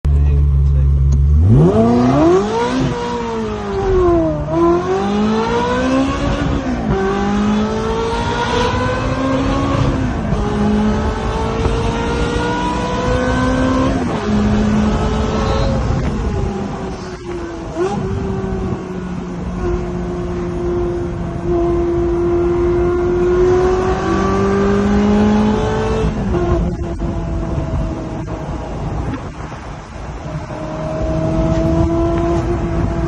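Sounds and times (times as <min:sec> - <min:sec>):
sports car engine accelerating: 0:00.1 - 0:33.0.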